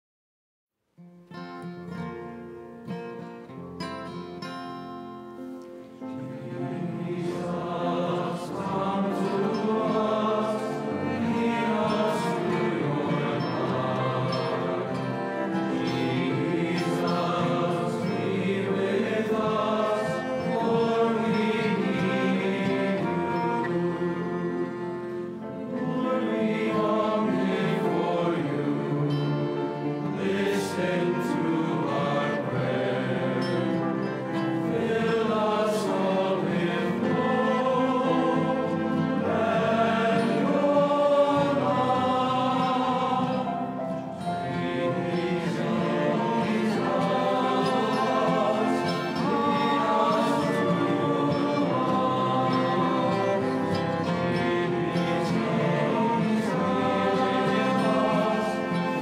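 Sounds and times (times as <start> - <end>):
piano accompaniment: 1.6 - 59.0
men's choir singing a hymn: 6.0 - 59.0.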